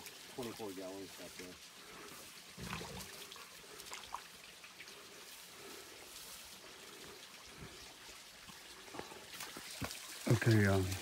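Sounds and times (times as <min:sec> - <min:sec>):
trickling and dripping water: 0:00.0 - 0:11.0.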